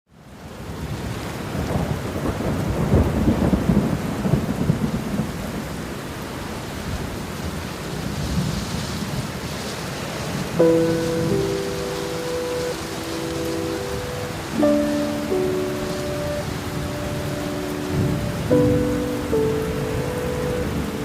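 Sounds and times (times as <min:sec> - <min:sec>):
heavy rain: 0:00.1 - 0:21.0
thunder rumbling and crackling: 0:00.8 - 0:06.0, 0:07.9 - 0:21.0.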